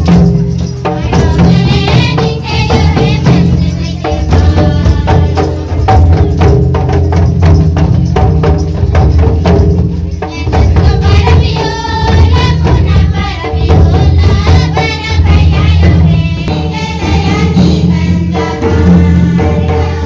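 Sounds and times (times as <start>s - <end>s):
quick steady drum beat: 0.0s - 20.0s.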